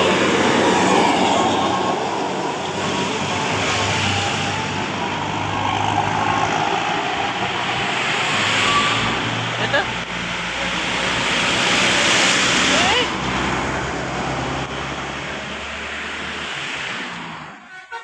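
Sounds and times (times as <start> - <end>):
bus engine hum: 0.0 - 18.0
road and tyre noise: 0.0 - 18.0.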